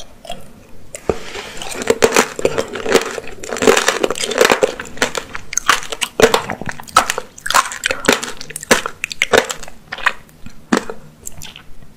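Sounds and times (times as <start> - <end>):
candy shell crunching while chewing: 0.0 - 11.6.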